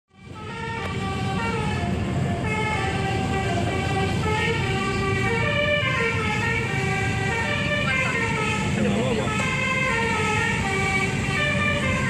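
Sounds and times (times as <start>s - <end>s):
bus musical horn playing a tune: 0.2s - 12.0s.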